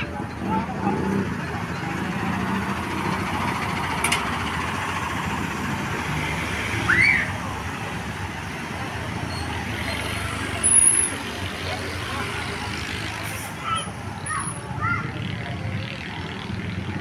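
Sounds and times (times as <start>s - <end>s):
bus engines running: 0.0s - 17.0s.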